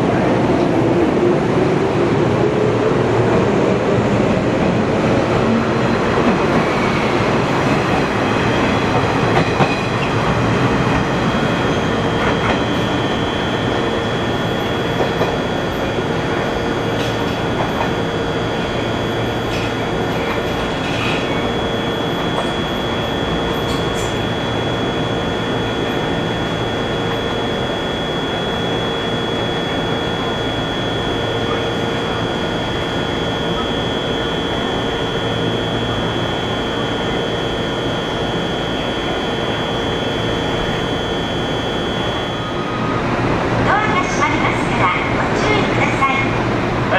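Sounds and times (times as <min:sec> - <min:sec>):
high whine: 0:02.2 - 0:46.9.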